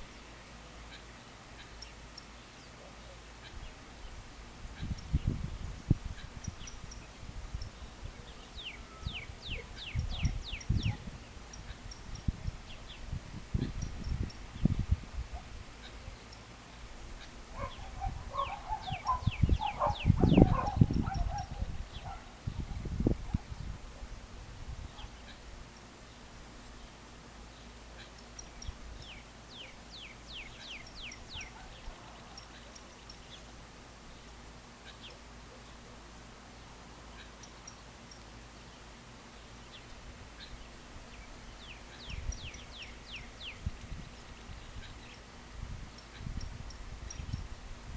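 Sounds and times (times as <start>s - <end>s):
birds whistling and chattering: 0.0s - 24.2s, 24.8s - 35.9s, 37.1s - 47.6s
faint steady background hiss: 0.0s - 47.9s.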